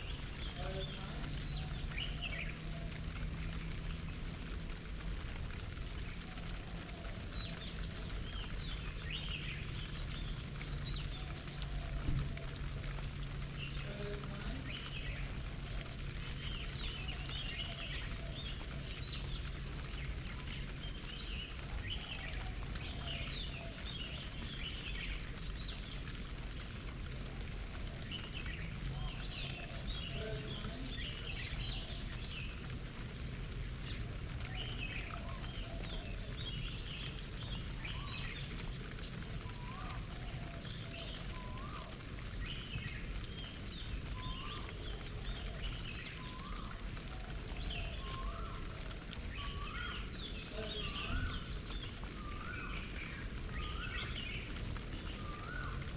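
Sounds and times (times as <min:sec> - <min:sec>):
birds chirping and twittering: 0:00.0 - 0:55.9.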